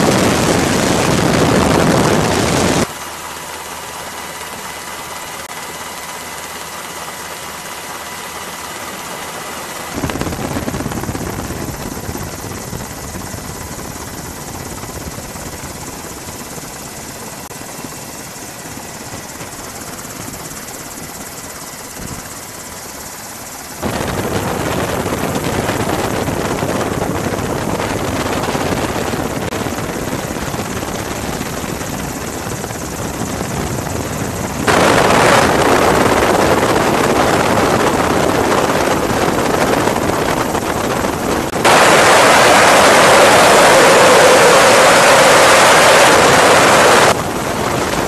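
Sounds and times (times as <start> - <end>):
helicopter in flight: 0.0 - 48.0.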